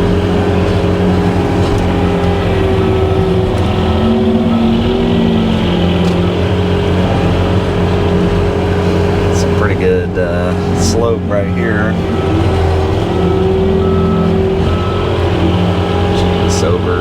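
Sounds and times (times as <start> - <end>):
skid steer engine droning: 0.0 - 17.0.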